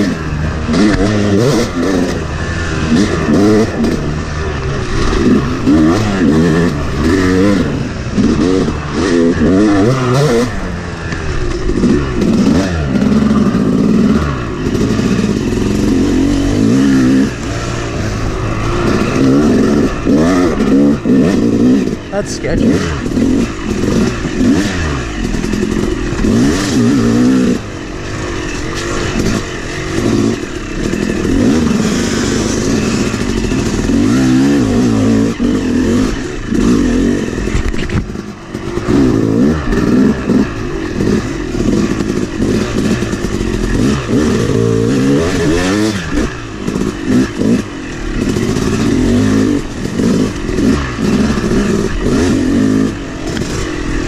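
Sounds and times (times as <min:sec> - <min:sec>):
two-stroke dirt bike engine revving: 0:00.0 - 0:54.0.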